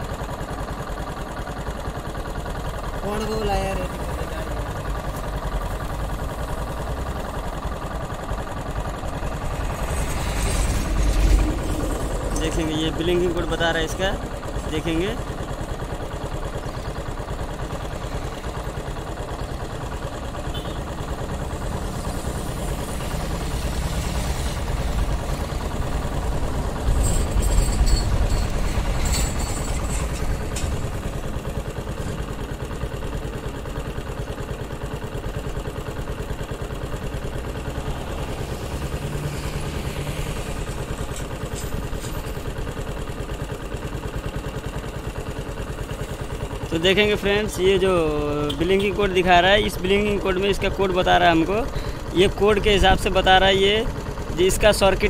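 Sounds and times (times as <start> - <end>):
engine clatter: 0.0 - 55.0
moped engine idling: 0.0 - 55.0.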